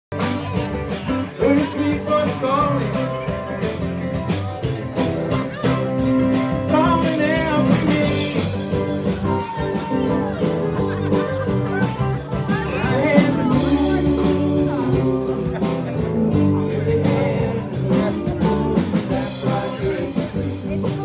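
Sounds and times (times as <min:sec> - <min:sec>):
live band with guitars: 0:00.1 - 0:21.0.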